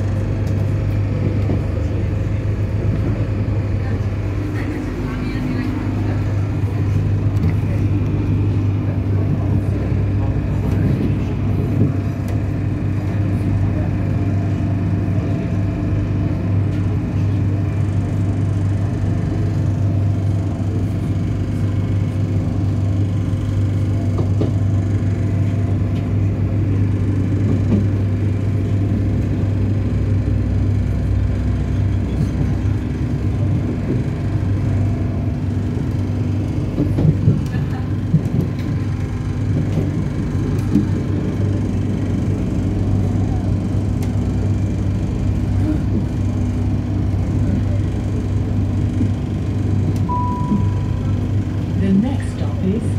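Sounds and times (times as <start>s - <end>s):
train engine drone: 0.0s - 52.9s
wheels rumbling on track: 0.0s - 52.9s.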